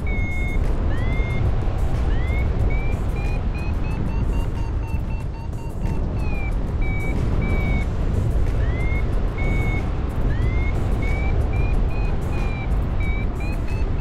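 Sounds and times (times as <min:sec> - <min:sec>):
variometer high beeps: 0:00.0 - 0:07.9, 0:08.5 - 0:14.0
wind rumble on microphone: 0:00.0 - 0:14.0.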